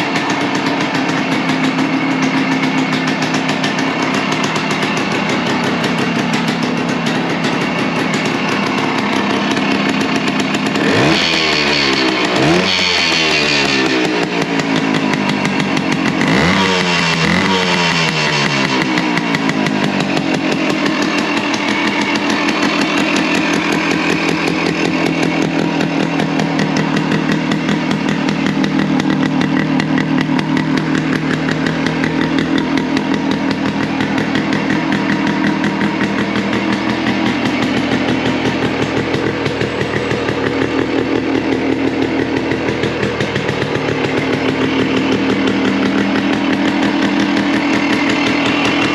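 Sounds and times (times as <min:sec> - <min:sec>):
two-stroke engine idling: 0:00.0 - 0:48.9.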